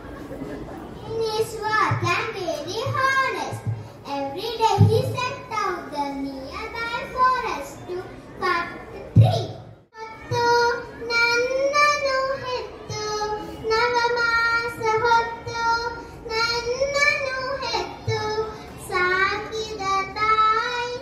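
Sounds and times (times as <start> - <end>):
girl singing into a microphone: 1.2 - 7.8, 8.5 - 21.0.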